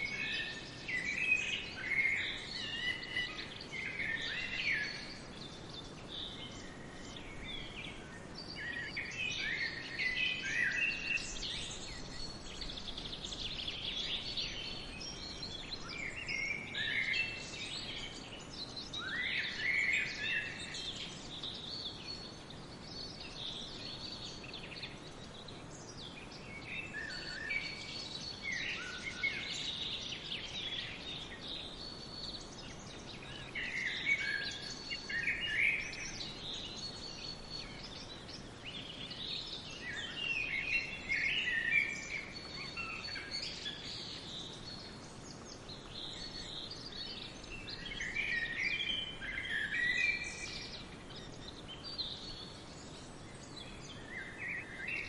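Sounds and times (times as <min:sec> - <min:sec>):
faint outdoor hiss: 0:00.0 - 0:55.0
songbirds chirping: 0:00.0 - 0:55.0.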